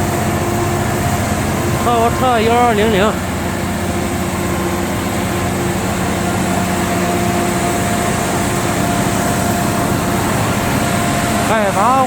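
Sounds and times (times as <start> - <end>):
diesel air compressor running: 0.0 - 12.0.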